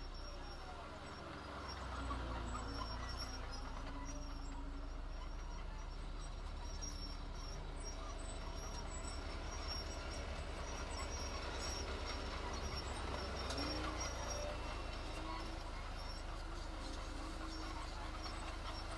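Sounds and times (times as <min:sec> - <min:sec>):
diesel engine rumble: 0:00.0 - 0:18.9.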